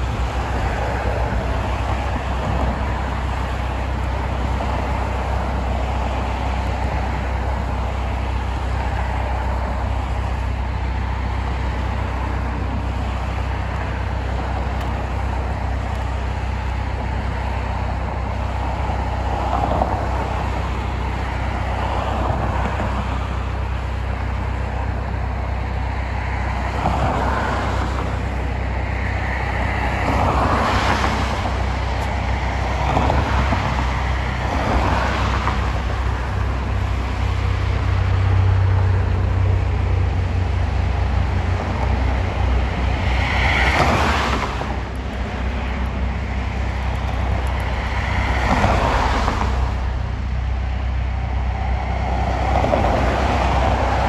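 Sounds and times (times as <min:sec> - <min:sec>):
backhoe diesel engine rumbling: 0:00.0 - 0:54.0
cars passing by: 0:00.0 - 0:54.0.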